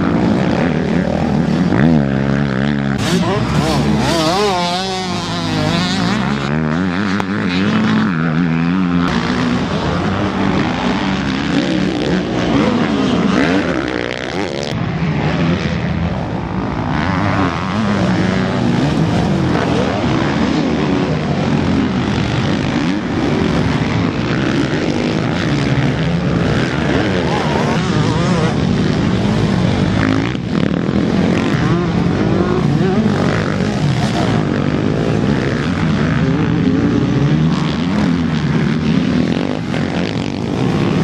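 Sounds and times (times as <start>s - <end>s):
motocross bikes revving: 0.0s - 41.0s.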